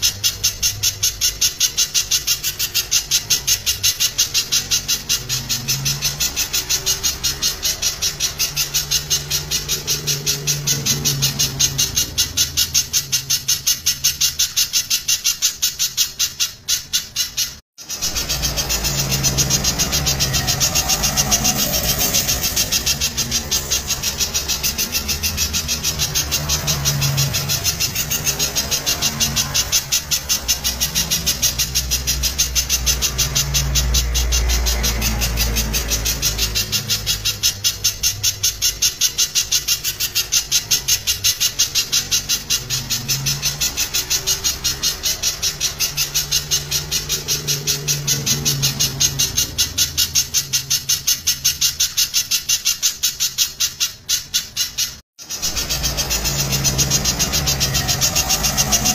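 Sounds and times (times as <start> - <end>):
bird singing rapid sharp notes: 0.0 - 58.9.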